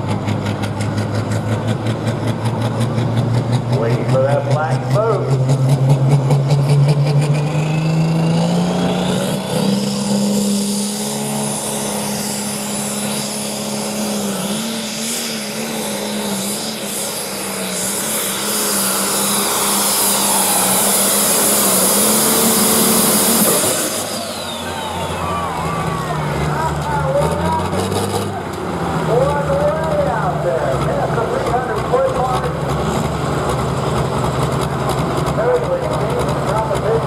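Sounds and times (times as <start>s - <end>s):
rising whine: 0.0s - 36.7s
tractor engine at full throttle: 0.0s - 37.0s.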